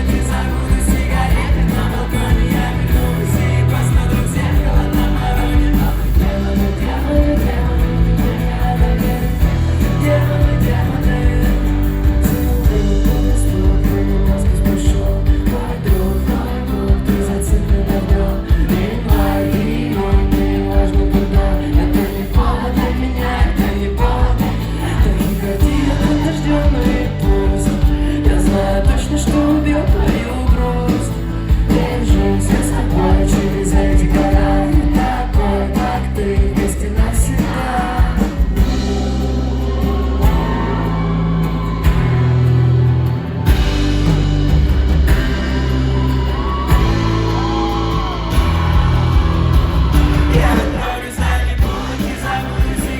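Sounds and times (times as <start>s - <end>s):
singer lead vocal: 0.0s - 44.3s, 45.0s - 52.9s
guitar and band: 0.0s - 52.9s.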